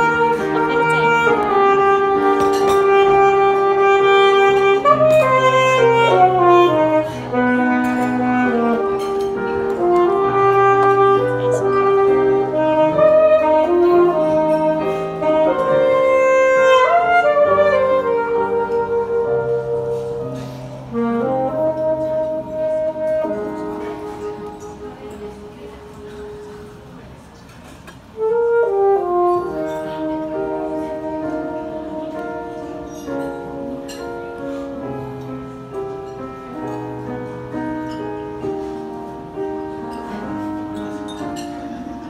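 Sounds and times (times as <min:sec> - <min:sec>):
alto saxophone ballad melody: 0:00.0 - 0:42.0
piano accompaniment: 0:00.0 - 0:42.0.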